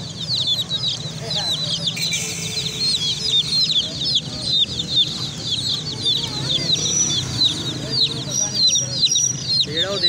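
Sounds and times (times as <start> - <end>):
baby chicks peeping: 0.0 - 10.0.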